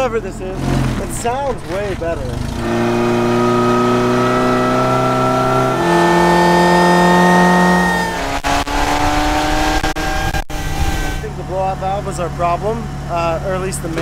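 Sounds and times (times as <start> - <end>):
supercharged car engine revving: 0.0 - 14.0.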